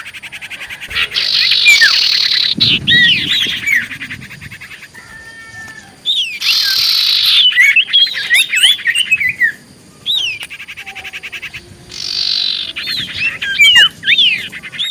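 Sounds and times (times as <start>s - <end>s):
fast ticking bird chatter: 0.0s - 14.9s
harsh rasping bird call: 0.0s - 14.9s
bird whistled notes: 0.6s - 10.5s, 11.4s - 14.9s.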